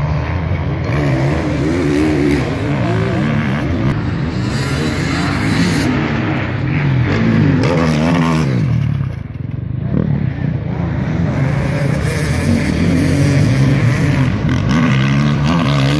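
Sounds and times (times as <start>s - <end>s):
motorcycle engines revving: 0.0s - 15.9s.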